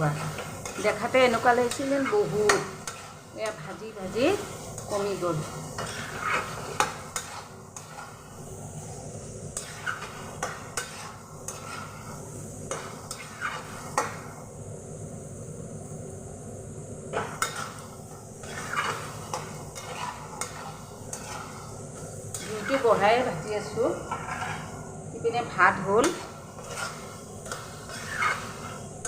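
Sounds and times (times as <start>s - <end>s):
spatula scraping a pan: 0.0s - 14.4s, 17.1s - 29.0s
food sizzling: 0.0s - 29.0s.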